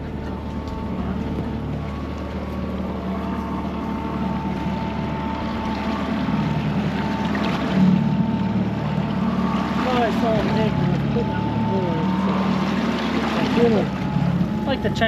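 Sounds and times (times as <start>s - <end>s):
boat engine humming: 0.0s - 15.0s
thin steady whine: 0.0s - 15.0s.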